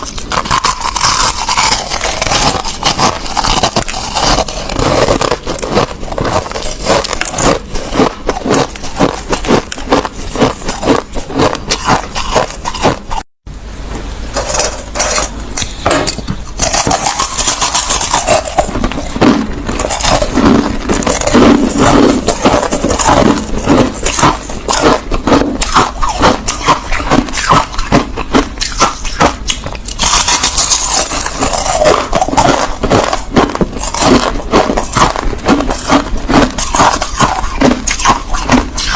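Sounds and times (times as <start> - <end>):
crushed ice being chewed: 0.0 - 13.4, 16.5 - 38.9.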